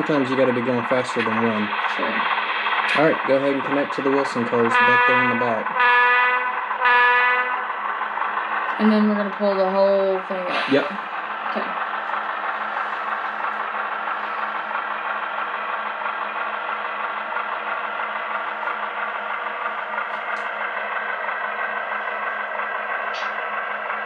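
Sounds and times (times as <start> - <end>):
model train humming: 0.0 - 24.0.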